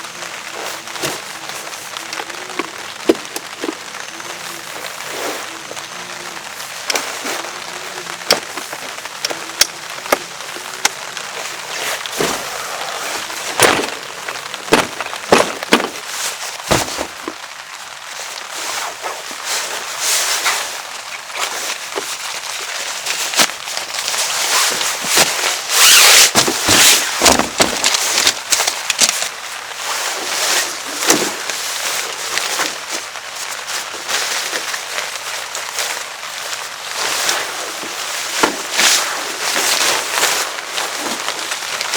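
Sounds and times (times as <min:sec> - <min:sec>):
rain hiss: 0:00.0 - 0:41.9.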